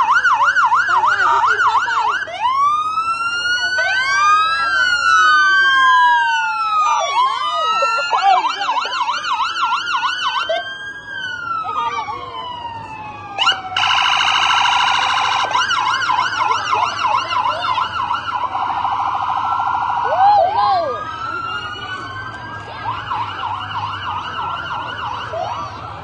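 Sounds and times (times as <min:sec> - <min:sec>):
police sirens wailing and yelping: 0:00.0 - 0:26.0.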